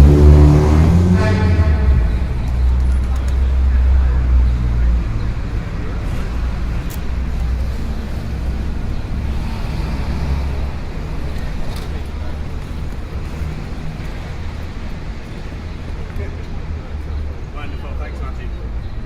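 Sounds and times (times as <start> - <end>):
people's voices: 0.0 - 19.0
road traffic rumble: 0.0 - 19.0.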